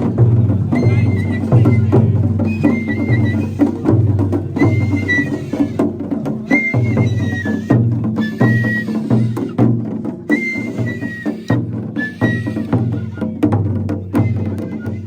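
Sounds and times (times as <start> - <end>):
high bamboo flute melody: 0.0 - 15.0
quick steady drumming: 0.0 - 15.0.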